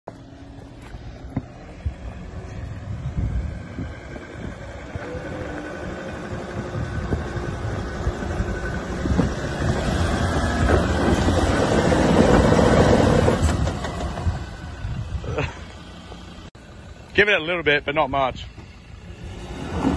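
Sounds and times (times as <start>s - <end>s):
diesel truck engine under load: 0.1s - 19.9s.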